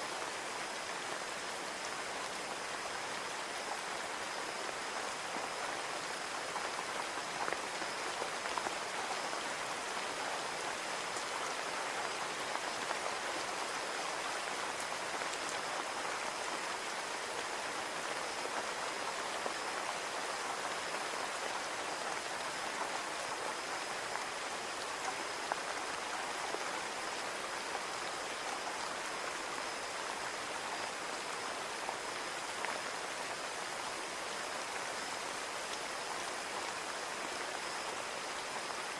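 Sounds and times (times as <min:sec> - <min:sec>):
rain pattering on a window: 0:00.0 - 0:38.9.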